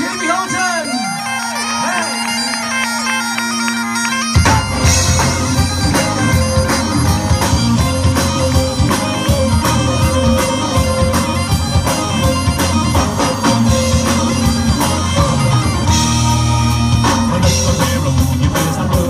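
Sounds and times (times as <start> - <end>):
bagpipes playing over drone: 0.0 - 18.3
drums with band: 0.0 - 19.0.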